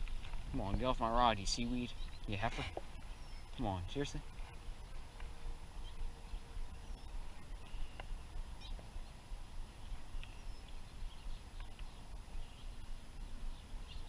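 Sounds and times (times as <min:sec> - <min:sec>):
faint bird chirps: 0:01.5 - 0:05.2, 0:05.8 - 0:14.0.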